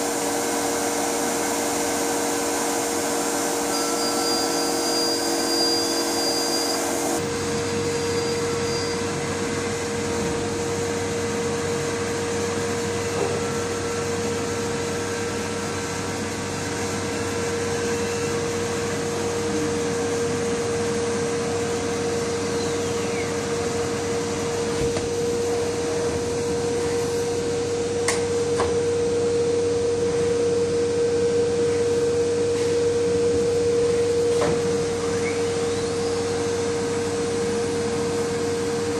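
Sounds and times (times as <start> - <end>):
cnc router running: 0.0 - 38.9.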